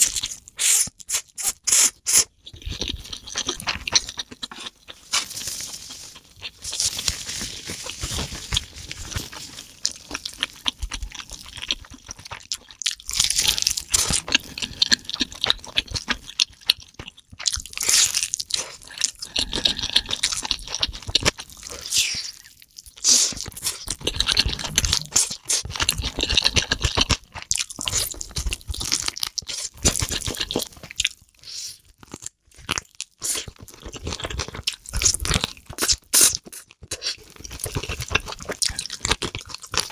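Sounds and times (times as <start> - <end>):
crunchy chewing: 2.1 - 39.9.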